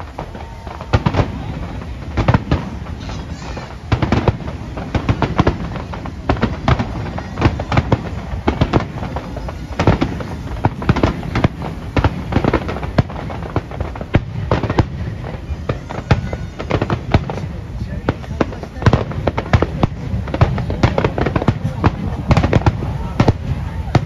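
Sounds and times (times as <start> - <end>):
fireworks bursts and crackling bangs: 0.0 - 24.0.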